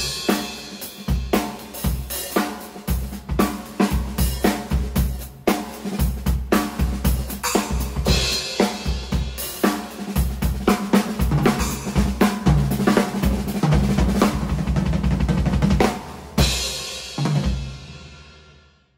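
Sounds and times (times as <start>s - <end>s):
drum kit playing fast groove: 0.0s - 18.4s.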